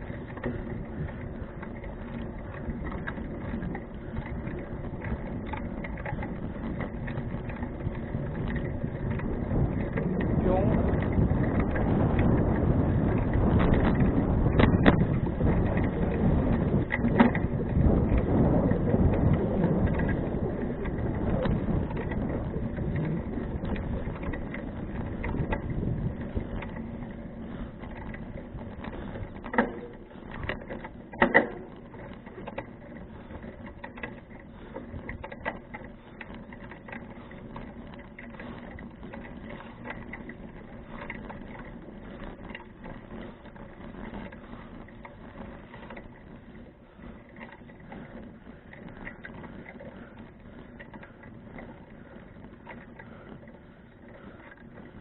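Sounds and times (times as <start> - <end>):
fine rapid clicking: 0.0 - 55.0
wind and bicycle tyre rumble: 0.0 - 55.0.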